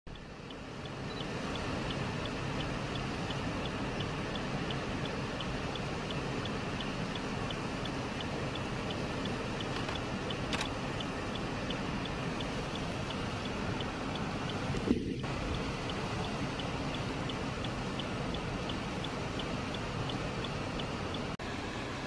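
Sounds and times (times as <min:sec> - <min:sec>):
outdoor background hiss: 0:00.1 - 0:22.0.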